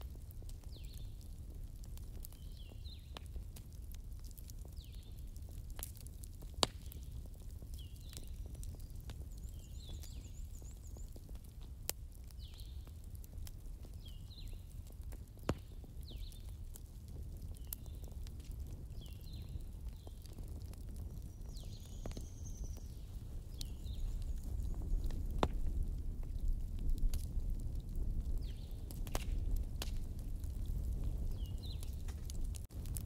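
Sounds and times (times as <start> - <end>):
low fire rumble: 0.0 - 33.0
sharp fire pops: 0.0 - 33.0
wood fire crackling: 0.0 - 33.0.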